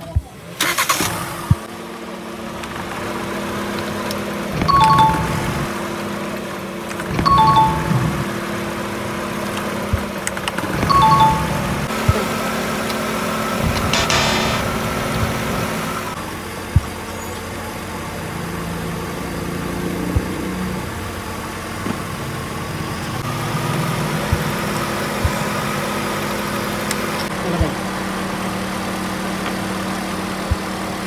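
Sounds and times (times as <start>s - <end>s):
car engine idling: 0.3s - 31.0s.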